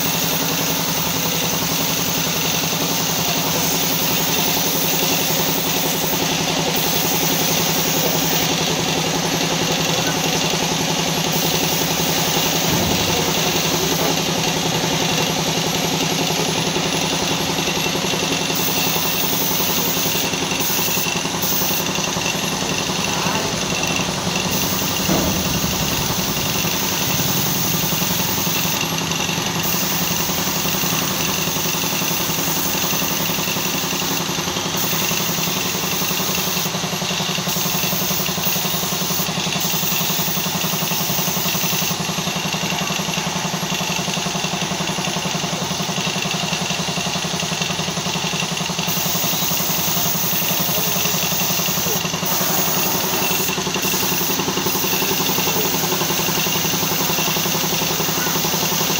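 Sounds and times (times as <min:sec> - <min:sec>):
air compressor running: 0:00.0 - 0:58.9.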